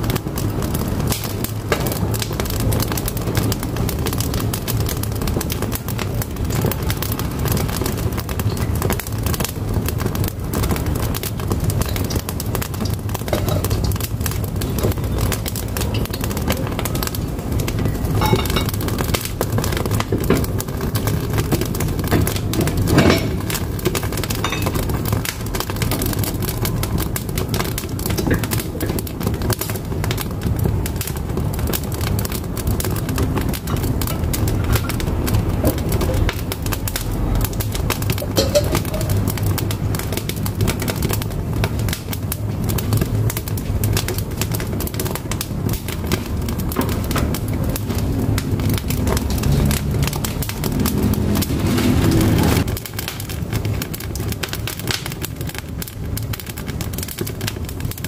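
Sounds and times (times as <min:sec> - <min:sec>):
firewood crackling: 0:00.0 - 0:58.0
low rumble of flames: 0:00.0 - 0:58.0
wood popping: 0:00.1 - 0:58.0.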